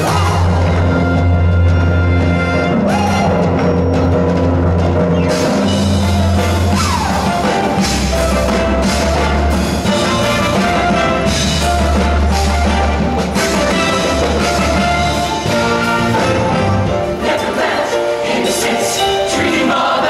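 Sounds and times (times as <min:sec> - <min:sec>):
band music with drums and bass: 0:00.0 - 0:18.1.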